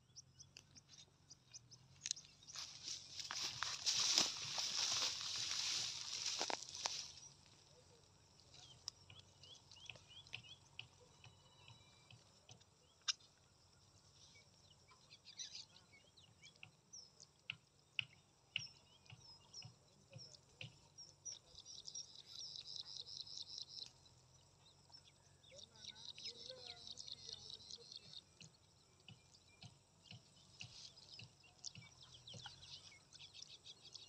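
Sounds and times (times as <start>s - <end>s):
faint bird chirps and calls: 0.0s - 34.0s.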